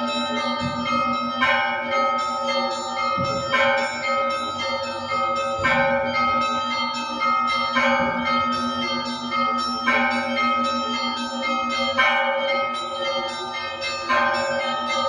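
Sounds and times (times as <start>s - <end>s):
heavy low church bell: 0.0s - 15.0s
small bells chiming: 0.0s - 15.0s.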